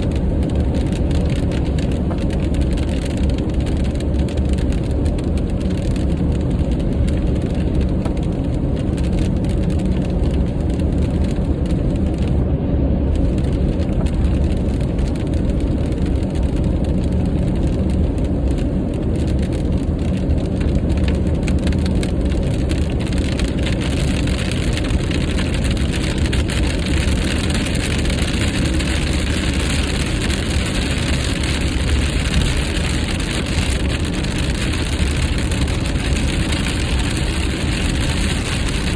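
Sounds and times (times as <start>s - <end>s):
raindrops ticking on windshield: 0.0s - 12.4s, 13.1s - 38.9s
car road and engine rumble: 0.0s - 38.9s.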